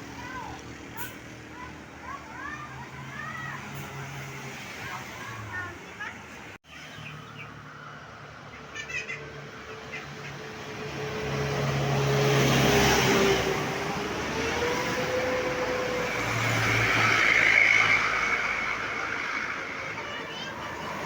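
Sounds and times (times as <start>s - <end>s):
vehicles driving past: 0.0s - 21.0s.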